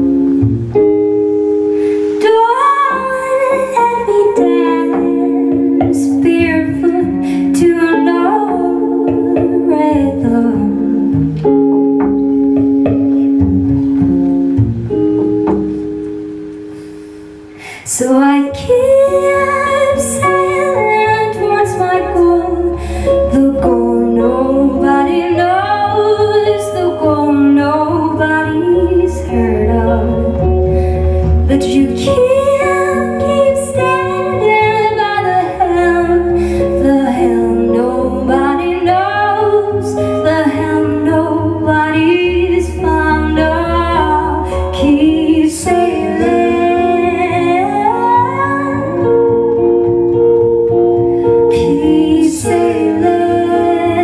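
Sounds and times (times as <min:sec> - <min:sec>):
double bass: 0:00.0 - 0:54.0
electric guitar: 0:00.0 - 0:54.0
woman singing: 0:02.0 - 0:11.6, 0:17.6 - 0:54.0.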